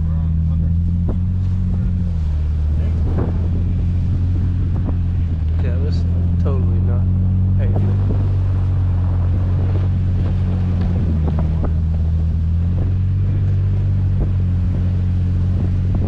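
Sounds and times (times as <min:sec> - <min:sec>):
truck engine low drone: 0:00.0 - 0:16.0
wind buffeting microphone: 0:00.0 - 0:16.0.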